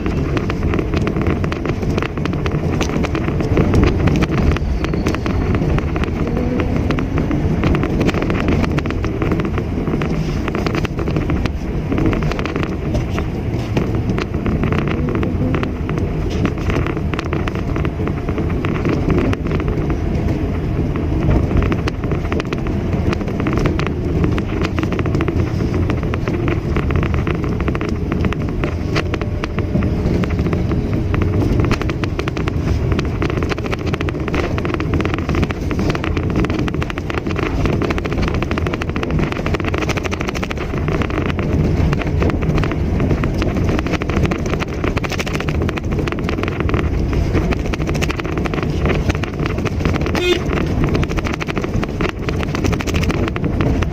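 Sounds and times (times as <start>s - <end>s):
car engine: 0.0s - 53.9s
road noise: 0.0s - 53.9s.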